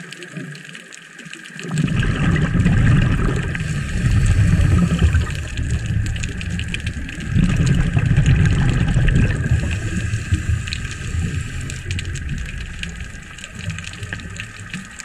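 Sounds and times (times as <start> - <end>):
faint underwater clicks and crackle: 0.0 - 15.0
underwater regulator bubbles: 0.0 - 15.0.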